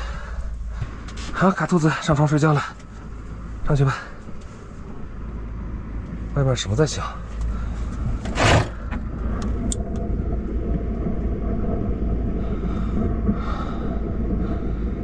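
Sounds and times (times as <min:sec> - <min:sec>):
strong wind buffeting a vehicle: 0:00.0 - 0:15.0.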